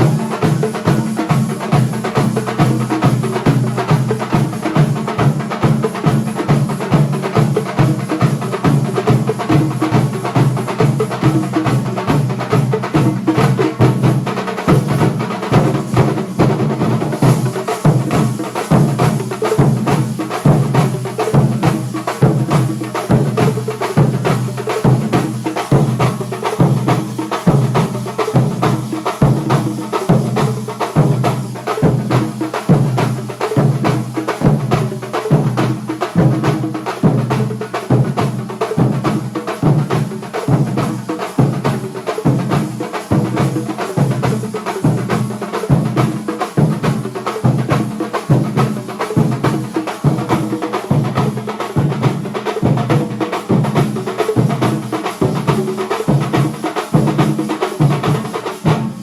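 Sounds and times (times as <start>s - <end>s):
drums playing fast rhythm: 0.0s - 59.0s.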